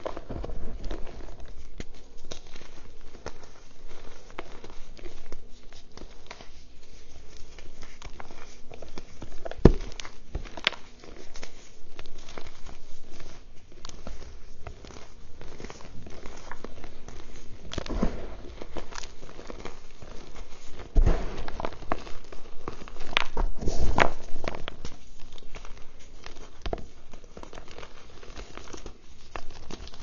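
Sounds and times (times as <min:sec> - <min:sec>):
chalk crunching and crackling: 0:00.0 - 0:30.0.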